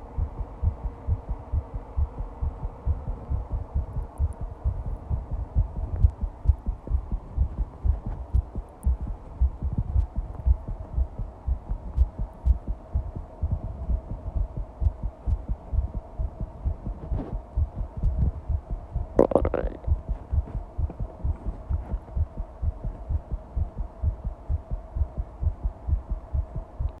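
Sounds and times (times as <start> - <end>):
faint steady hum: 0.0 - 27.0
fast heartbeat thumps: 0.0 - 27.0.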